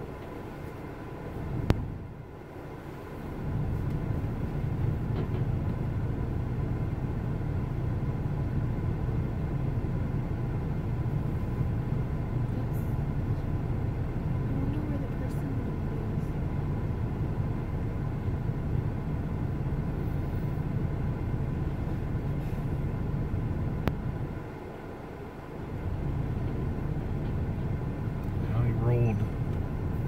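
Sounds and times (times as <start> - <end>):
car cabin rumble: 0.0 - 30.0.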